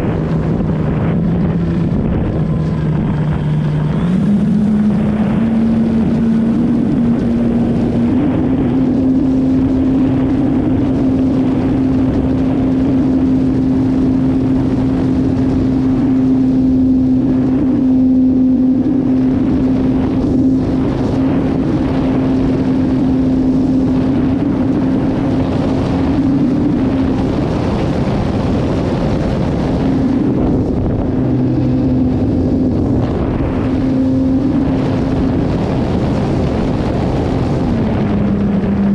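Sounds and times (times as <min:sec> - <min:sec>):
model airplane engine drone: 0:00.0 - 0:38.9.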